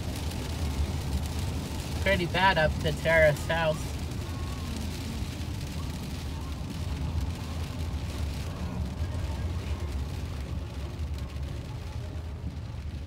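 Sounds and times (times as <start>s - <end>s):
car tyres on wet road: 0.0s - 13.0s
rain hissing on windshield: 0.0s - 13.0s.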